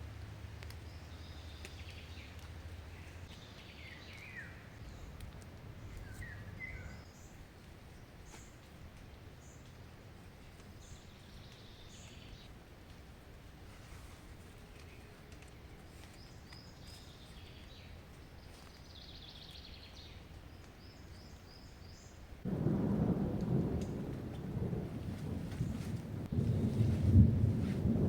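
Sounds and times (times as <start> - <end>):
forest birds chirping: 0.0 - 28.0.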